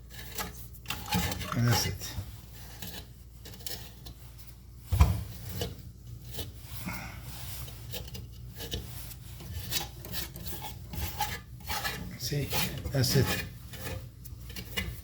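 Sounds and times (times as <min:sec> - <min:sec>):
scraping and rubbing: 0:00.0 - 0:15.0.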